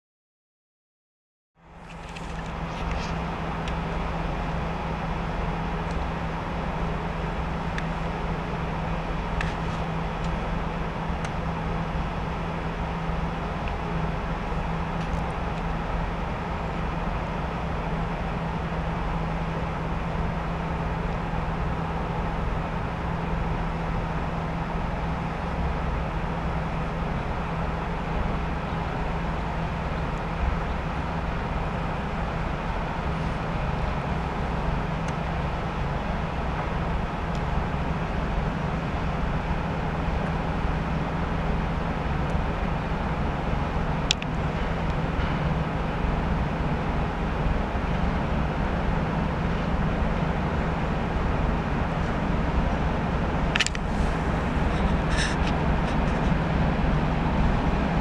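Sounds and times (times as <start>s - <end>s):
diesel locomotive engine droning: 1.6s - 58.0s.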